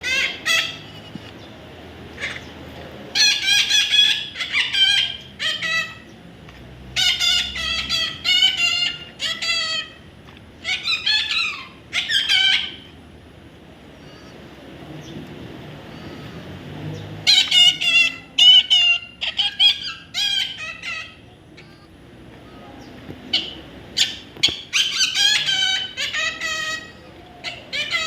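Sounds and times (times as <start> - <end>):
parrot high-pitched calls: 0.0 - 1.2, 2.1 - 6.1, 6.9 - 13.0, 13.9 - 14.5, 15.8 - 16.5, 17.2 - 28.0.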